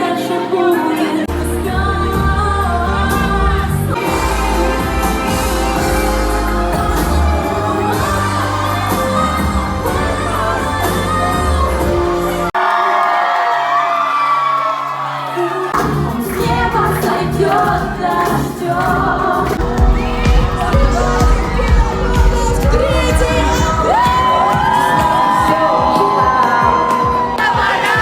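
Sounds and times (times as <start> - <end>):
pop music with singing: 0.0 - 12.6, 15.1 - 28.0.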